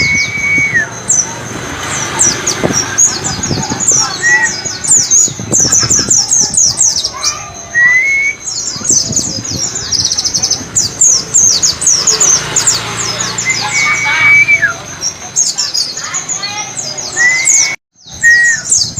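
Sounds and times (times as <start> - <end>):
bird song with rapid trill: 0.0 - 18.9.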